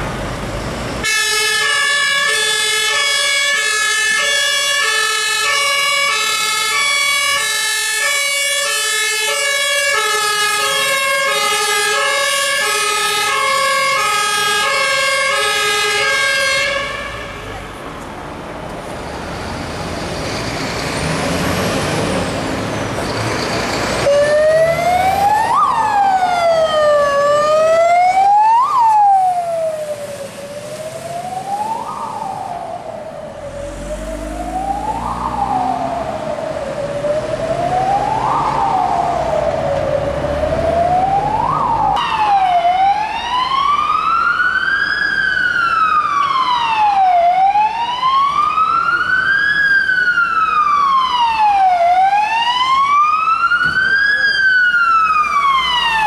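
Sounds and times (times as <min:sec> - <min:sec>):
fire engine siren: 0:00.0 - 0:18.1, 0:18.8 - 0:56.0
truck traffic rumble: 0:00.0 - 0:56.0.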